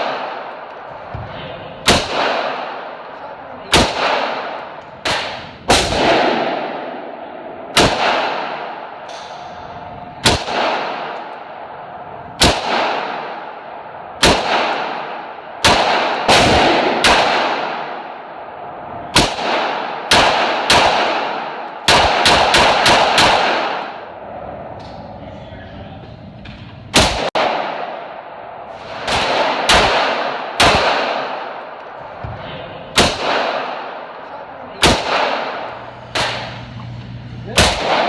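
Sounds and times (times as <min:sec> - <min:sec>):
rifle shots echoing: 0:00.0 - 0:24.2, 0:26.5 - 0:38.0.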